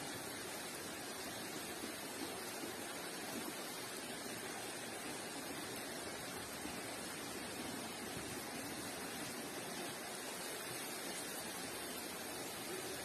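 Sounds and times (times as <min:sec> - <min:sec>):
floodwater rushing along street: 0:00.0 - 0:13.0.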